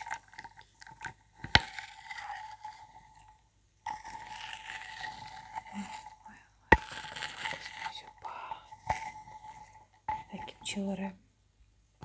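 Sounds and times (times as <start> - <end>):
spoon scraping ceramic bowl: 0.0 - 11.0.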